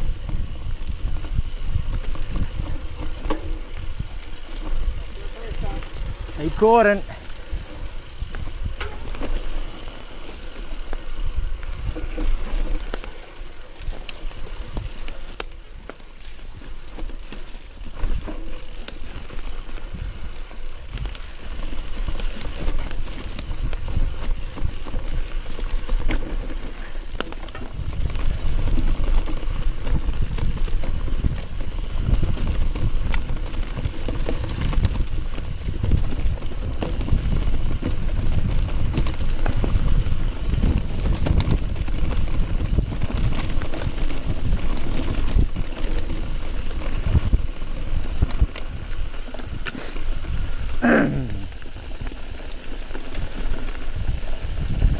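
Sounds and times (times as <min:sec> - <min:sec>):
bike rattling: 0:00.0 - 0:54.9
bike tyres rolling over dirt: 0:00.0 - 0:54.9.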